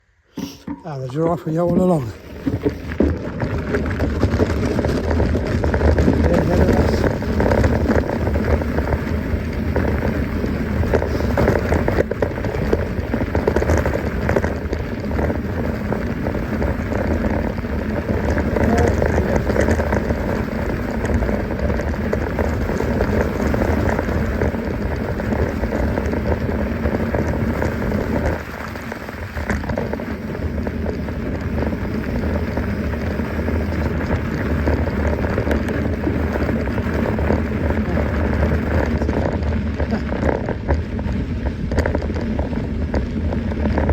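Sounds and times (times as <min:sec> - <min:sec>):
bike tyres crunching on gravel: 0:00.2 - 0:43.9.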